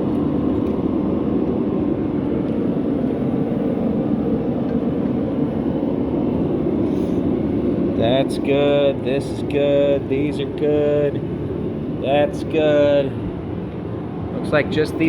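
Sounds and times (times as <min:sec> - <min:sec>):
low drone of workshop equipment: 0:00.0 - 0:15.0.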